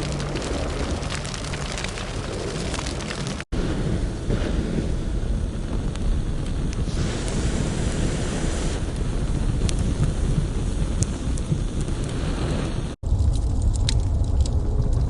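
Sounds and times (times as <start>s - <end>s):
fire crackles: 0.0s - 15.0s
large fire rushing: 0.0s - 15.0s.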